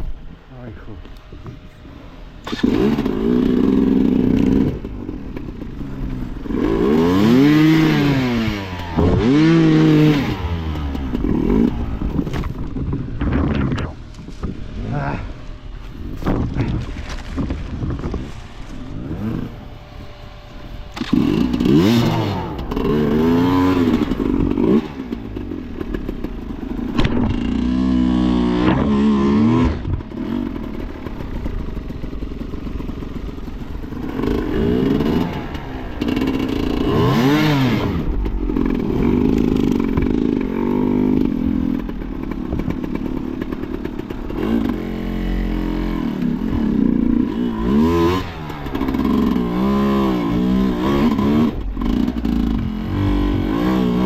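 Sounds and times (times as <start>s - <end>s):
motorcycle engine revving: 0.0s - 54.0s
bike clattering and scraping: 2.4s - 54.0s.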